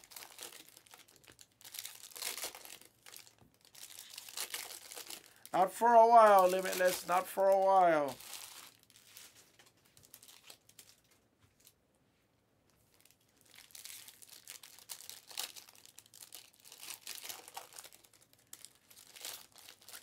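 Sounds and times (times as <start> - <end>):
foil wrappers crinkling and tearing: 0.0 - 11.8, 12.9 - 20.0.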